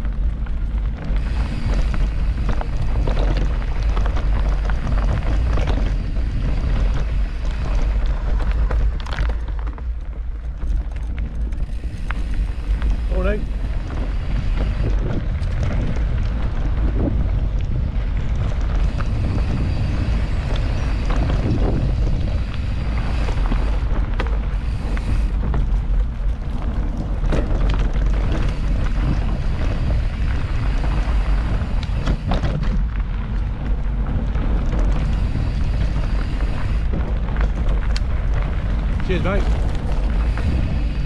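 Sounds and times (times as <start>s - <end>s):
bike knocks and rattles: 0.0s - 41.0s
bike tyre noise: 0.0s - 41.0s
wind buffeting microphone: 0.0s - 41.0s.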